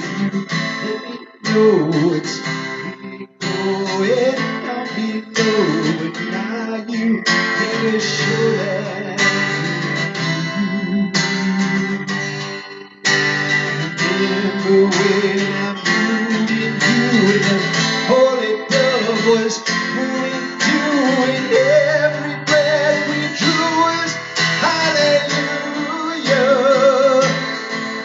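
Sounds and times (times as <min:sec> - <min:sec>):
guitar strummed: 0:00.0 - 0:28.0
person singing: 0:00.0 - 0:28.0.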